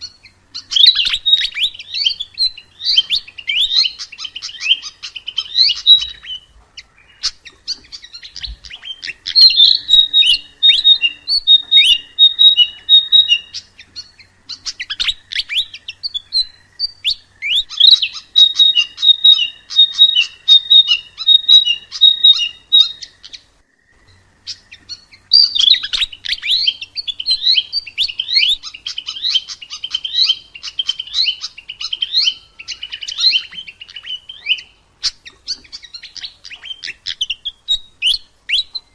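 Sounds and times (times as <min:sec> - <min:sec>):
flycatcher singing high chirps: 0:00.0 - 0:38.9.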